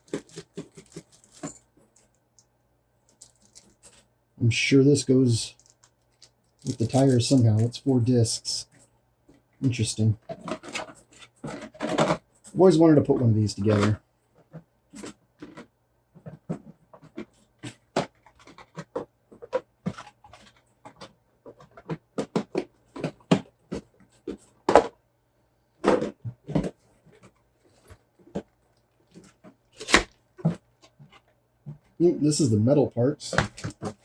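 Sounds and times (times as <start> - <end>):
parts and packaging handled: 0.0 - 4.1, 5.4 - 7.9, 8.7 - 12.6, 13.6 - 24.9, 25.8 - 32.0, 33.3 - 34.0
faint steady hum: 0.0 - 34.0.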